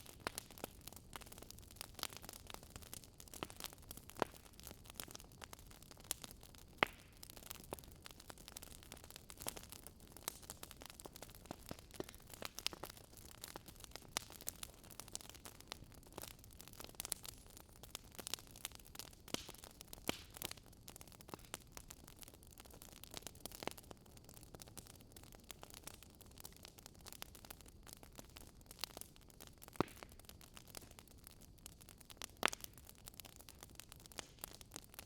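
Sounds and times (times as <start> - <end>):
hiss of burning logs: 0.0 - 35.0
wood fire crackling: 0.0 - 35.0.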